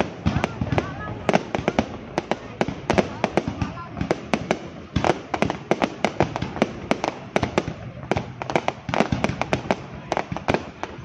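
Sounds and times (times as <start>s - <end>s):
continuous noisy background: 0.0s - 11.0s
fireworks bangs: 0.0s - 11.0s.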